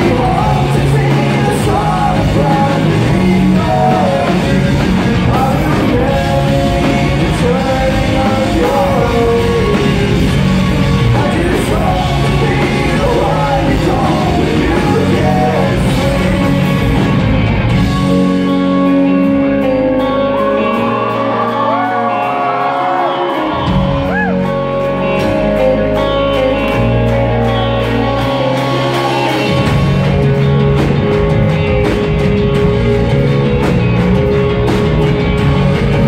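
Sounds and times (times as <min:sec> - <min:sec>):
rock band playing live: 0:00.0 - 0:36.0.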